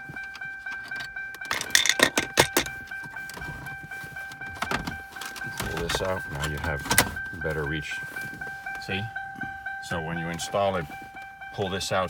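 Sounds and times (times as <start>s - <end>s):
car warning chime dinging: 0.0s - 12.0s.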